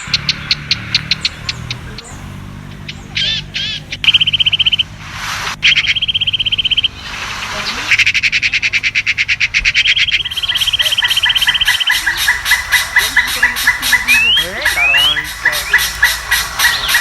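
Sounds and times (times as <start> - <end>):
rapid high trills: 0.0 - 17.0
warbling chirps: 0.0 - 17.0.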